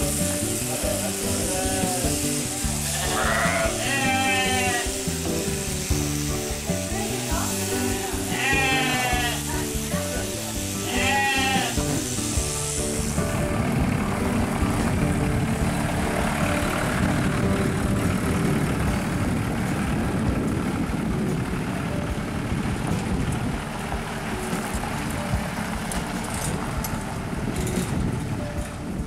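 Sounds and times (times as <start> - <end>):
tractor engine running: 0.0 - 29.0
trailer rolling over gravel: 0.0 - 29.0.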